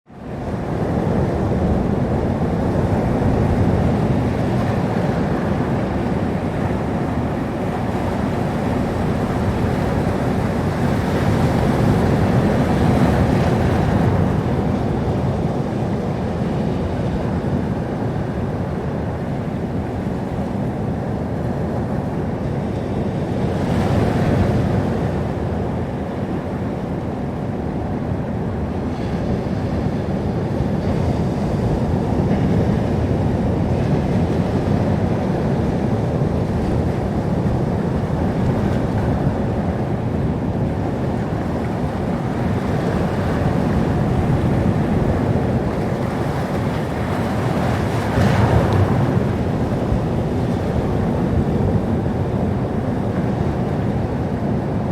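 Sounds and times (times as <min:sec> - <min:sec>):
sea waves breaking on shore: 0:00.1 - 0:54.9.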